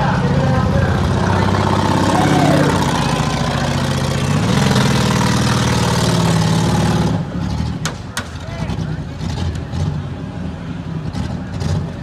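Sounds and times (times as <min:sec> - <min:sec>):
car engines running loudly: 0:00.0 - 0:12.0.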